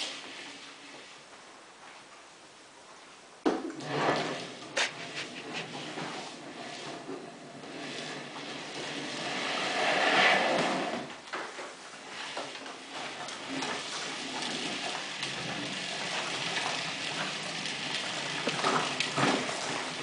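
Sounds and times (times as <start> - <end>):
plastic wheels rolling on wood floor: 0.0 - 2.0, 3.5 - 20.0.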